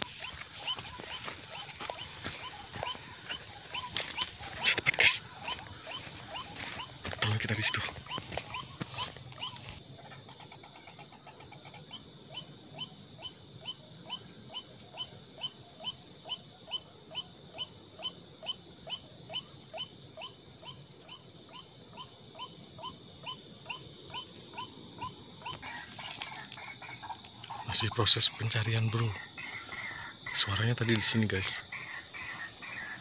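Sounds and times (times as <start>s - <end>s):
night insects trilling: 0.0s - 33.0s.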